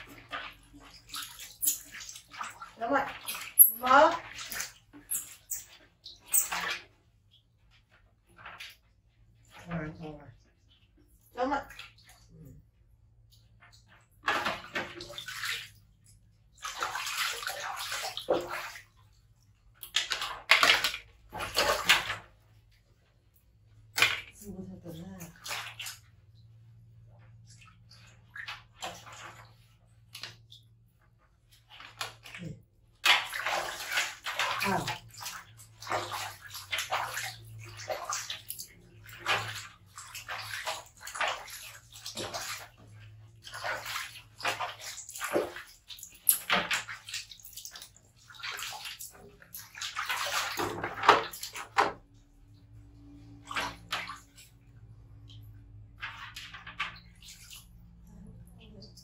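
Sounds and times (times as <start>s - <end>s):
water splashing in metal basin: 0.0s - 59.0s.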